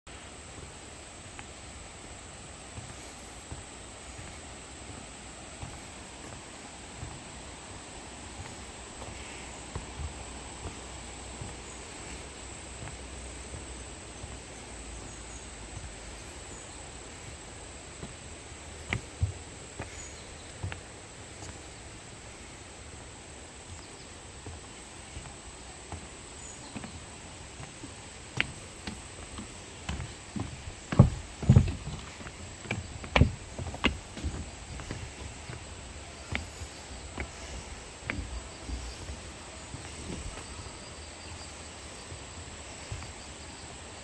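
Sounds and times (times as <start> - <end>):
high insect drone: 0.1 - 44.0.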